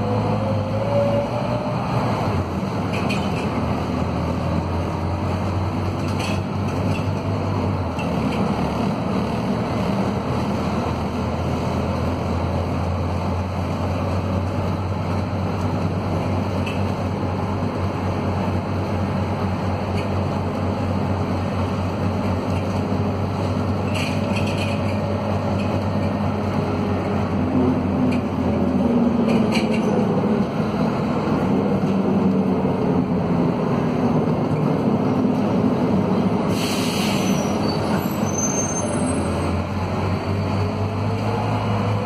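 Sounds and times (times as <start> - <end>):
bus diesel engine pulling uphill: 0.0 - 42.0.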